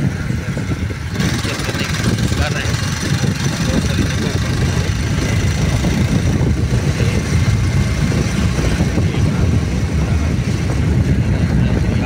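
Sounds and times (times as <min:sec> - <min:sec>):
vehicle engine and road rumble: 0:00.0 - 0:12.0
wind buffeting microphone: 0:00.0 - 0:12.0.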